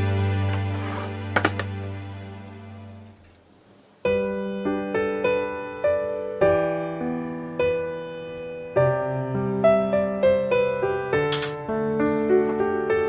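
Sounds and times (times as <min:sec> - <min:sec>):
piano piece: 0:00.0 - 0:03.2, 0:04.0 - 0:13.0.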